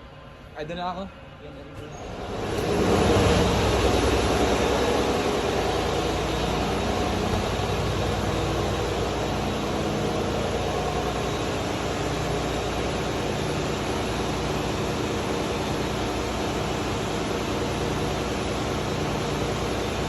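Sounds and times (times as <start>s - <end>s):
engine room machinery noise: 0.0s - 20.0s
engine turning over: 2.1s - 20.0s.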